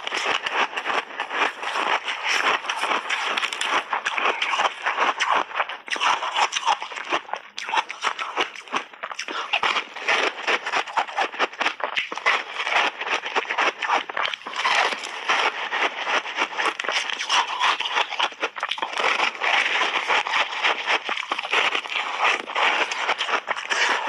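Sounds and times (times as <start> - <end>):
ice crunching being chewed: 0.0 - 24.0.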